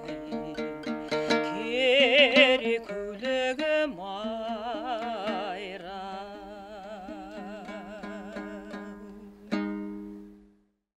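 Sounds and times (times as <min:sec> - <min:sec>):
woman singing with vibrato: 0:00.0 - 0:09.5
strummed lute: 0:00.0 - 0:10.7.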